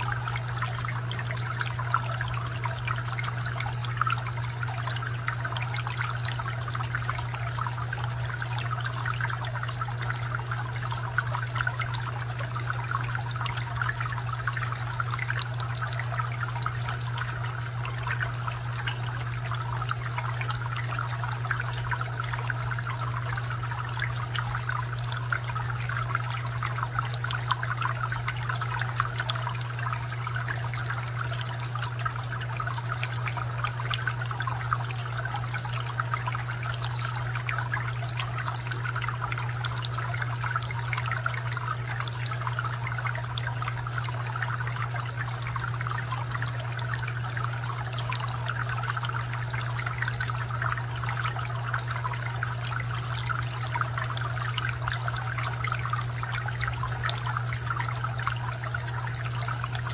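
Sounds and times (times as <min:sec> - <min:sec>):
fountain water trickling and splashing: 0:00.0 - 0:59.9
steady low hum: 0:00.0 - 0:59.9.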